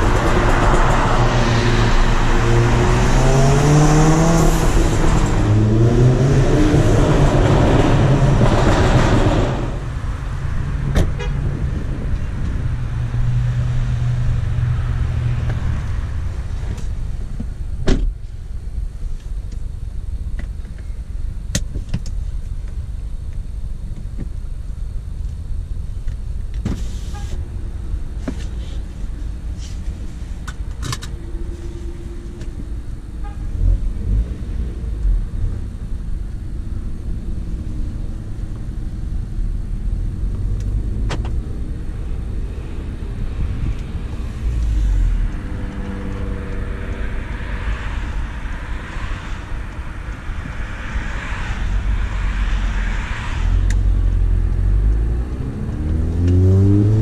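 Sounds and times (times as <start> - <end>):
car engine while driving: 0.0 - 57.0.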